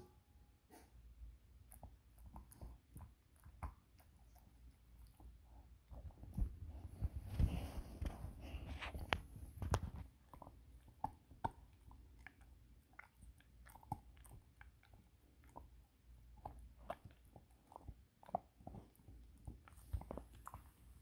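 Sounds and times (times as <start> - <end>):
puppy chewing a dental chew: 1.6 - 21.0.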